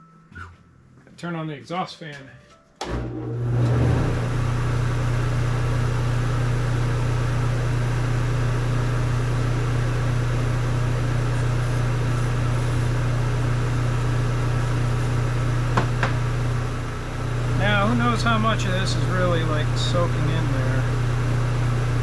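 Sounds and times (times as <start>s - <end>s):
exhaust fan running: 2.9s - 22.0s.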